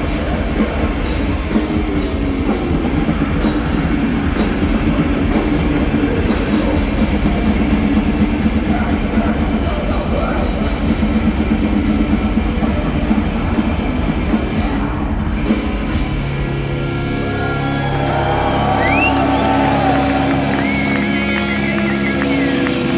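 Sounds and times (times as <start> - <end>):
heavy metal band playing live: 0.0 - 22.9.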